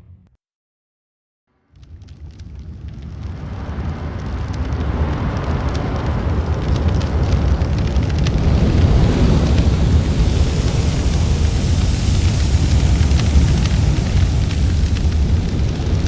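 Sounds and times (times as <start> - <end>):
fire crackling and popping: 1.7 - 16.0
roar of flames: 1.7 - 16.0.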